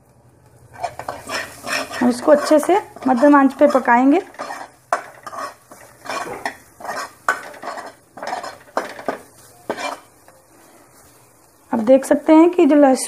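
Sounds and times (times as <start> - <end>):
vegetables frying in fat: 0.0 - 13.0
spoon stirring and scraping pan: 0.6 - 12.8.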